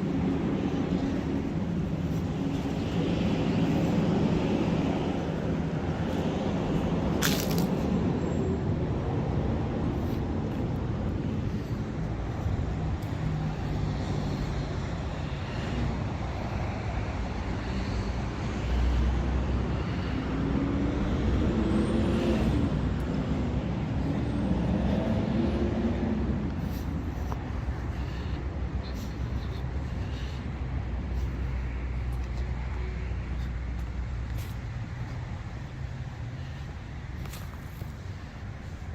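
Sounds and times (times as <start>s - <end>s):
traffic rumbling past: 0.0s - 38.9s.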